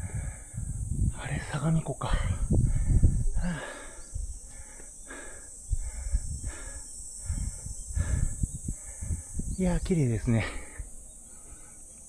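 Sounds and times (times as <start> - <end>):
wind rumble on microphone: 0.0 - 4.8, 5.6 - 10.6
high insect drone: 0.0 - 12.0.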